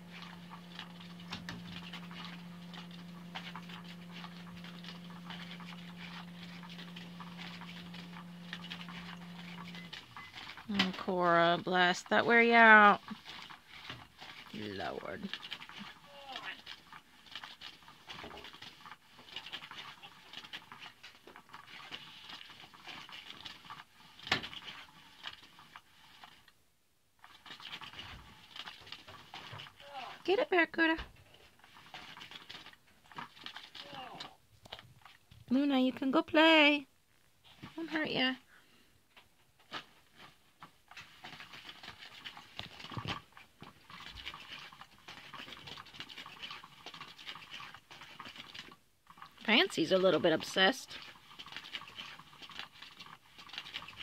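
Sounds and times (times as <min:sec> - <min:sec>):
cat toy wand scratching and rustling: 0:00.0 - 0:26.5, 0:27.2 - 0:35.2, 0:39.6 - 0:54.0.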